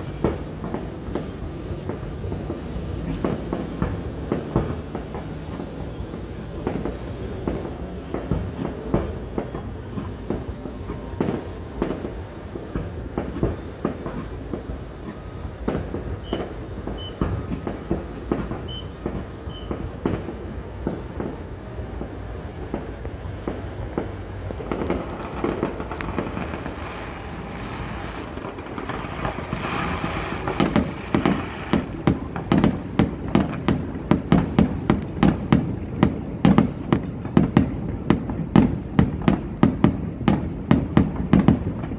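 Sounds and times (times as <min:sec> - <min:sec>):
fireworks bursting and crackling: 0:00.0 - 0:41.9
loud fireworks bangs: 0:00.0 - 0:41.9.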